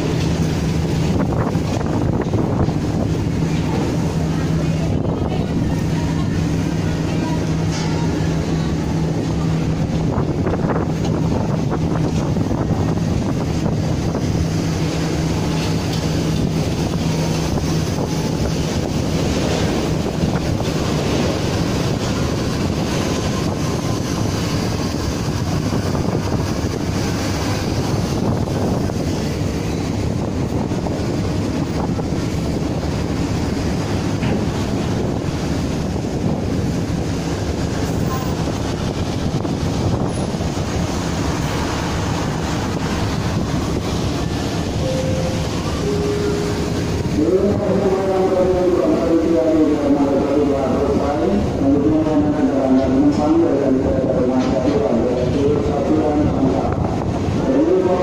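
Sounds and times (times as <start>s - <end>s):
heavy vehicle engines rumbling: 0.0s - 58.0s
wind buffeting microphone: 0.0s - 58.0s.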